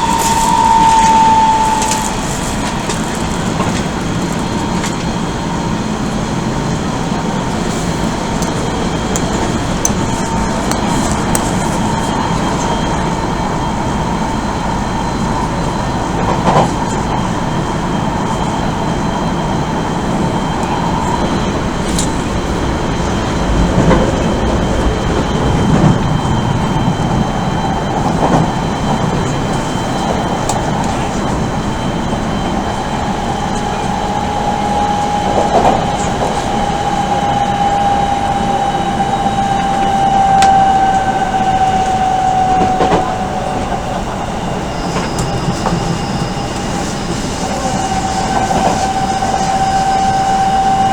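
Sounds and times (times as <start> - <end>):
traction motor whine: 0.0 - 50.9
train interior rumble: 0.0 - 50.9.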